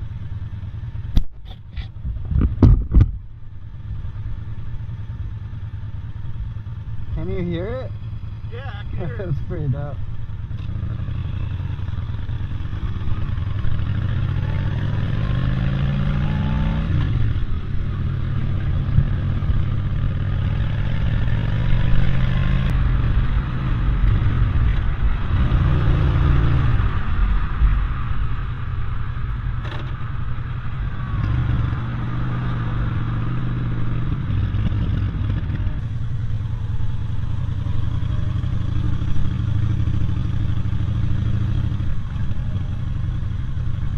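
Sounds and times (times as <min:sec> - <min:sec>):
wind and road noise: 0:00.0 - 0:43.9
vehicle engine accelerating: 0:07.2 - 0:43.9.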